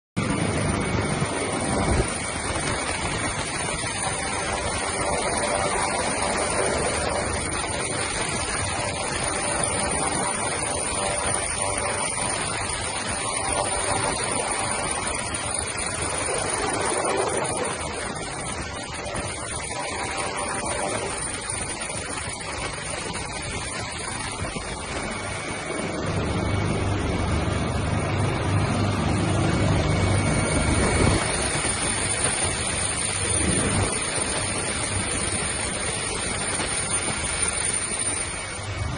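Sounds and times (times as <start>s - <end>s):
helicopter rotor and engines: 0.2s - 38.9s.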